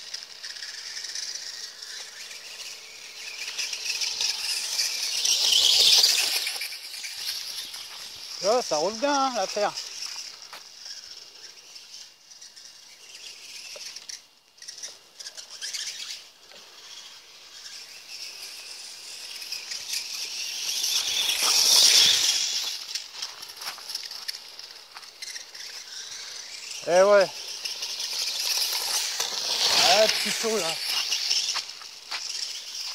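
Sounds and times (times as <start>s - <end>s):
rc motorcycle motor whirring: 0.0s - 32.9s.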